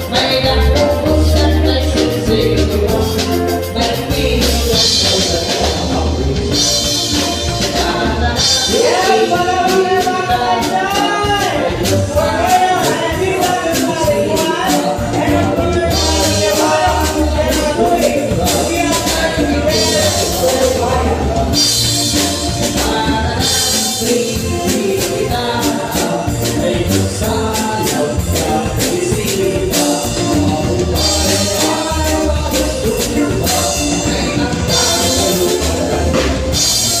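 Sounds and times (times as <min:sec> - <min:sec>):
live band playing dance music: 0:00.0 - 0:37.0
person singing: 0:00.0 - 0:37.0.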